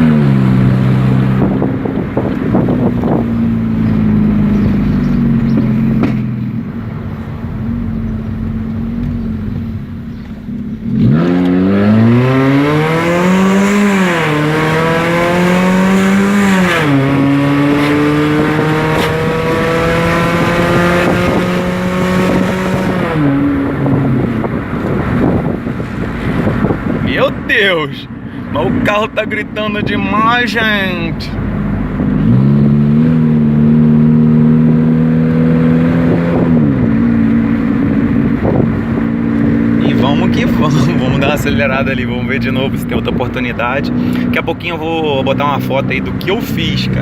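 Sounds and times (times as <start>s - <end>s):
car exhaust droning and accelerating: 0.0s - 47.0s.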